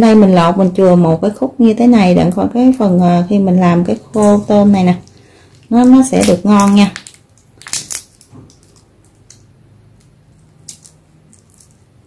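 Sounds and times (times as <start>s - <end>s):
shrimp shell crackling: 2.1s - 12.0s.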